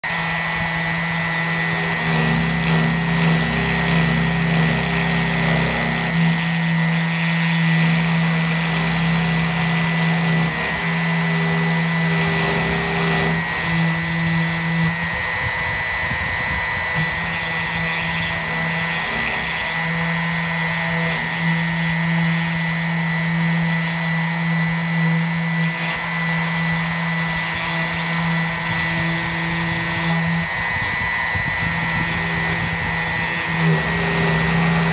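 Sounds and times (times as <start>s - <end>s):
cutter buzzing in wood: 0.0s - 34.9s
router motor whine: 0.0s - 34.9s.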